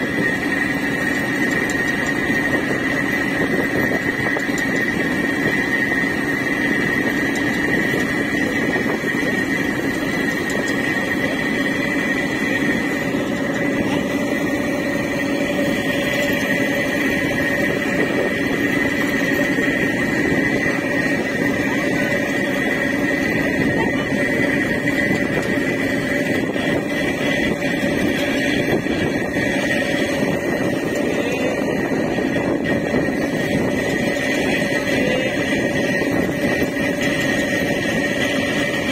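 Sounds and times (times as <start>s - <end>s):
boat engine droning: 0.0s - 38.9s
high whine: 0.0s - 38.9s
river water rushing along hull: 0.0s - 38.9s.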